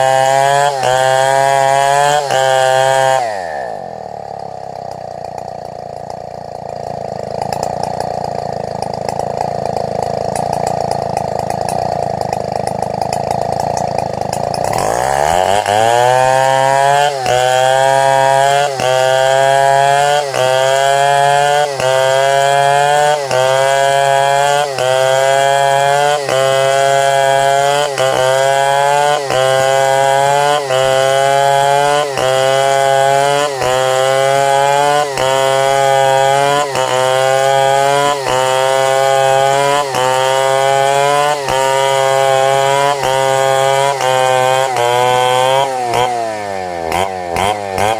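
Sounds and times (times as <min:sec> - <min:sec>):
chainsaw ripping a log: 0:00.0 - 0:47.9.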